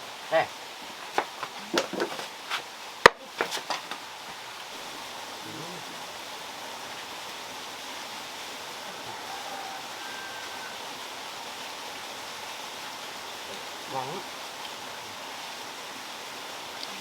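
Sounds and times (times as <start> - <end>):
water running in small waterfall: 0.0 - 17.0.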